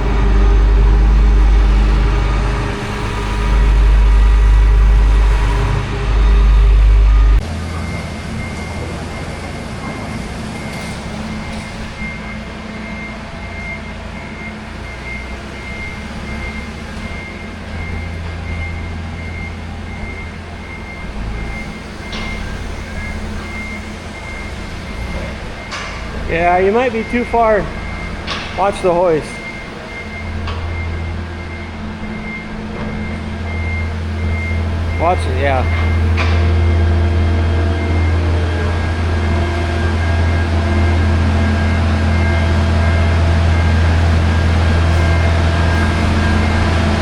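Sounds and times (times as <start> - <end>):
farm machinery low rumble: 0.0 - 47.0
reversing alarm beeping: 0.0 - 47.0.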